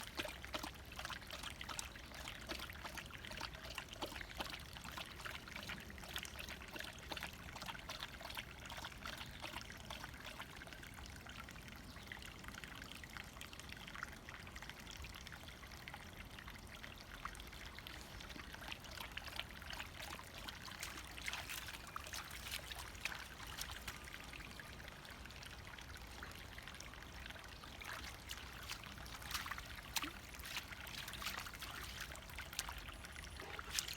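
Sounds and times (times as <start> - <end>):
brook bubbling over stones: 0.0 - 33.9.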